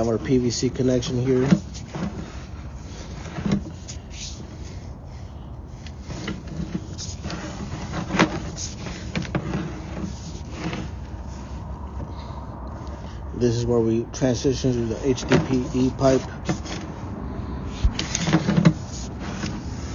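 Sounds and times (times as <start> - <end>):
low mechanical hum: 0.0 - 19.9.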